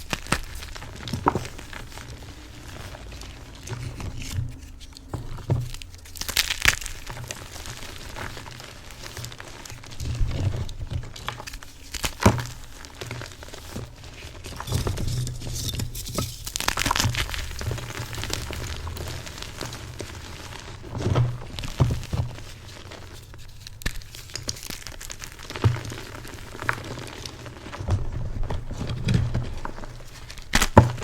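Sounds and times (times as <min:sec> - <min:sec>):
chalk being crushed: 0:00.0 - 0:27.7.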